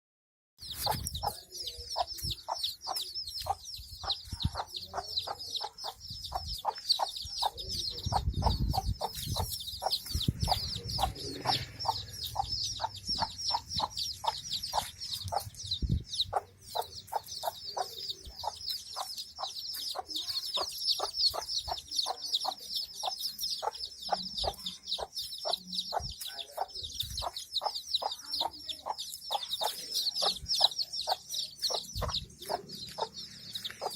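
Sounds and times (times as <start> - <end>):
chicks peeping: 0.6 - 33.9
hen clucking: 0.6 - 33.9.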